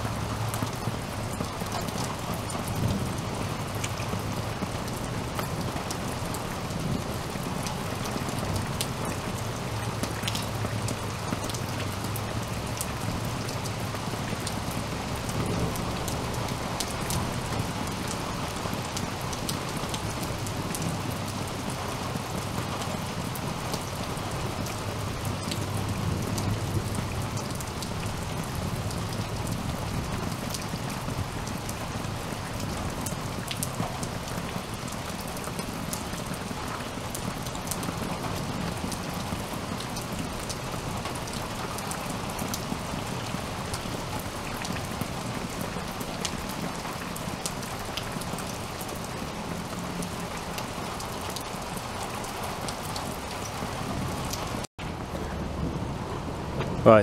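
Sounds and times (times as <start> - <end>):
raindrops ticking close by: 0.0 - 57.0
steady rain falling: 0.0 - 57.0.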